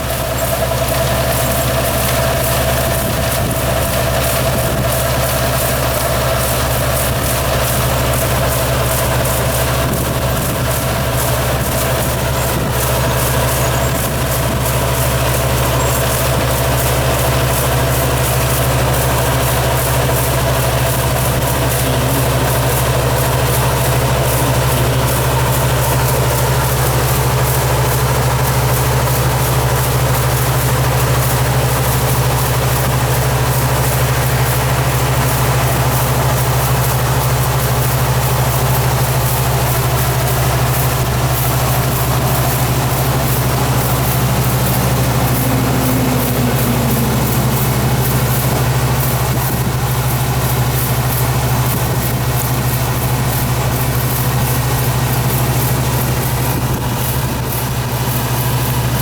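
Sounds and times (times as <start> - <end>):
farm machine engine running: 0.0 - 59.0.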